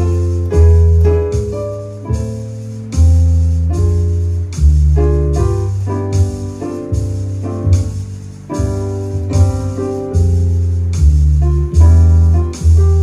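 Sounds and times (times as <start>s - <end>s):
solo jazz piano: 0.0s - 13.0s.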